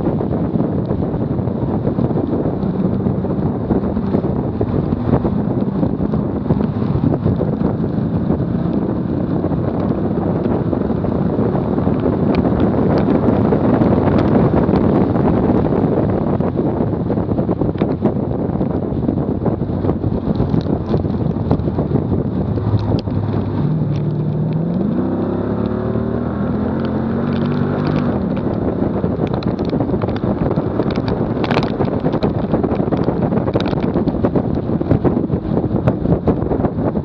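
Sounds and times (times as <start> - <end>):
car engine: 0.0 - 37.0
heavy wind buffeting: 0.0 - 37.0.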